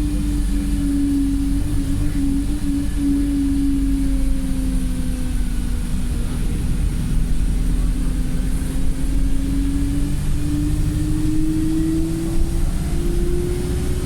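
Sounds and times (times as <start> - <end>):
bus engine whine: 0.0 - 14.0
low road rumble: 0.0 - 14.0.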